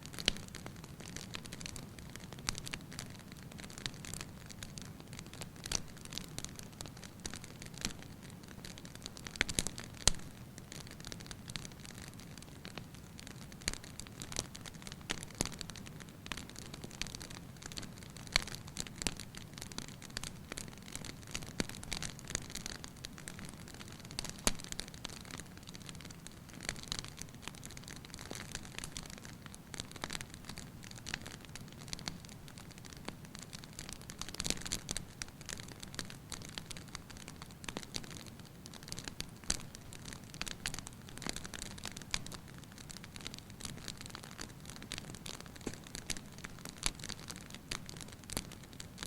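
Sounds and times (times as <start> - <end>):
low fire hiss: 0.0 - 49.0
wood fire crackling and popping: 0.0 - 49.0.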